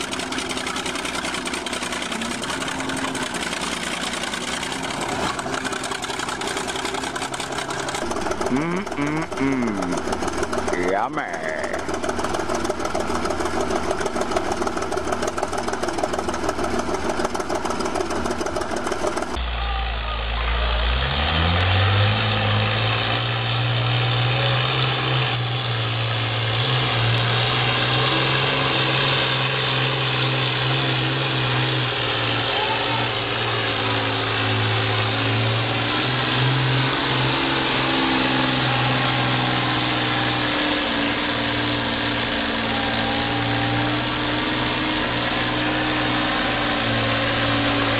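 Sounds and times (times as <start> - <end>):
vehicle engine revving: 0.0 - 47.9.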